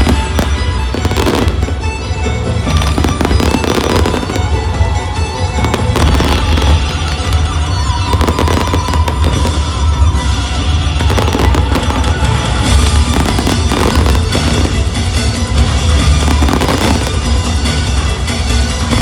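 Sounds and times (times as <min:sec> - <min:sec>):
fireworks bursting and crackling: 0:00.0 - 0:19.0
music playing: 0:00.0 - 0:19.0.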